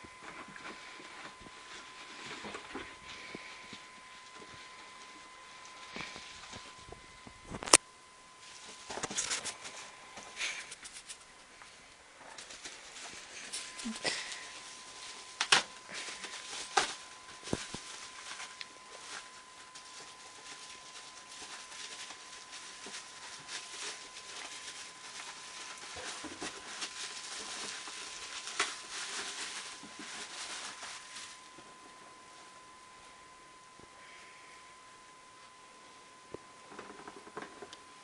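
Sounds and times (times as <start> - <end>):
rustling and handling noise: 0.0 - 38.0.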